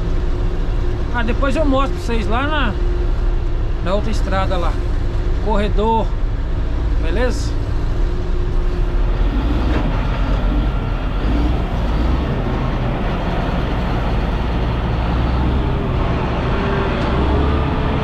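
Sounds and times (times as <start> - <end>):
grader diesel engine rumbling: 0.0 - 18.0.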